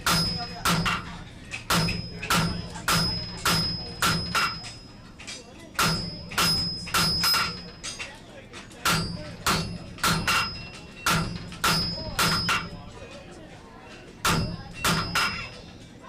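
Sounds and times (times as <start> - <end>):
hammer striking iron on anvil: 0.0 - 8.2, 8.8 - 13.0, 14.2 - 15.7.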